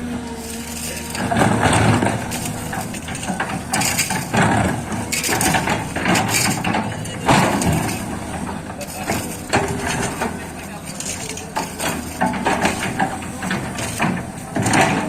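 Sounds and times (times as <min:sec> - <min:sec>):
excavator bucket clanking and scraping: 0:00.0 - 0:15.0
low engine rumble: 0:00.0 - 0:15.0.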